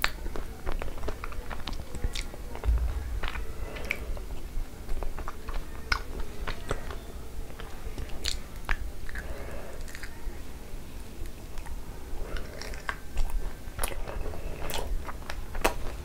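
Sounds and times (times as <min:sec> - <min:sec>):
close chewing and mouth sounds: 0:00.0 - 0:02.9, 0:04.8 - 0:16.0.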